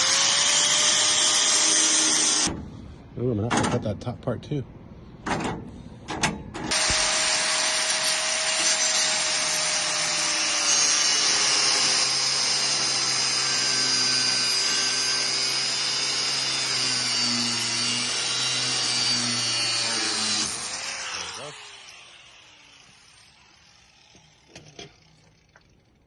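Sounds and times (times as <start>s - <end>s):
angle grinder cutting metal: 0.0s - 2.5s, 6.7s - 25.7s.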